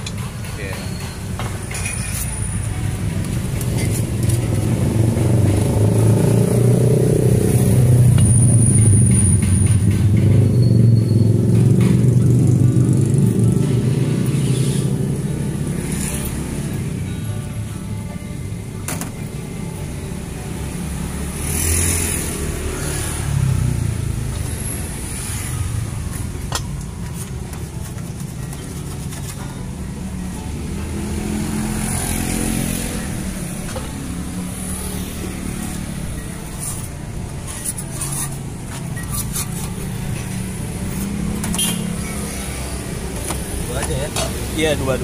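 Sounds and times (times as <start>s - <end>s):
motorcycle and car engines: 0.0s - 18.7s, 19.6s - 45.0s
vehicles passing close by: 0.0s - 45.0s.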